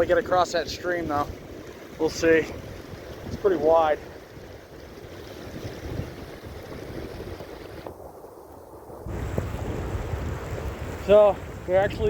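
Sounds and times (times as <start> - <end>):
rushing water: 0.0 - 12.0
wind buffeting microphone: 0.0 - 12.0.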